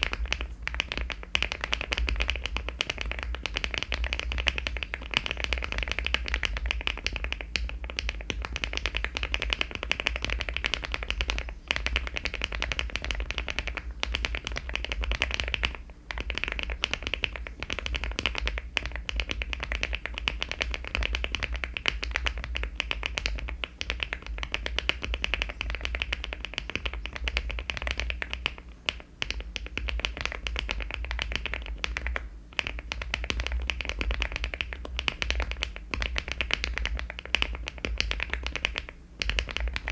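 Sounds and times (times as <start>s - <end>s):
mechanical keyboard typing: 0.0s - 39.9s
steady low hum: 0.0s - 39.9s.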